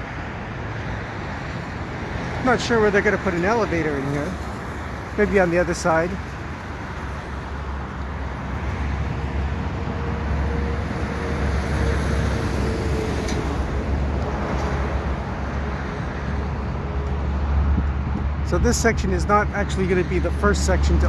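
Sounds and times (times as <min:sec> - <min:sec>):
highway traffic noise: 0:00.0 - 0:21.0
passing vehicle hum: 0:00.0 - 0:21.0.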